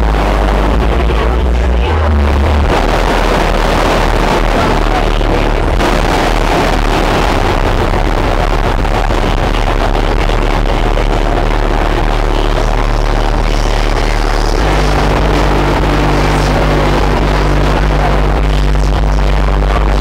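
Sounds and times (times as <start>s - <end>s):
bass-heavy music from car audio: 0.0s - 20.0s.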